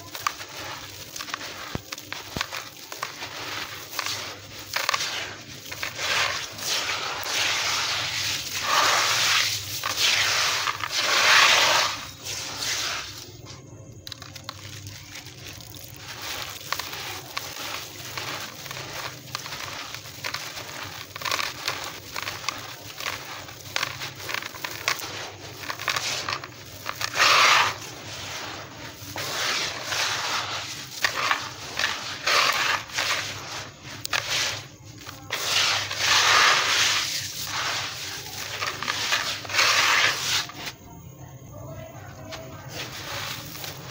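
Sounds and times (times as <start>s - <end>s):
grit pouring into water: 0.0s - 40.8s
stone chunks crushed by hand: 0.0s - 40.8s.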